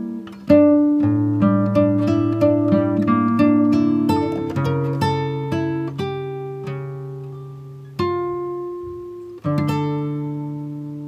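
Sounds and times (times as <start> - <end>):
plucked guitar notes: 0.0 - 11.0.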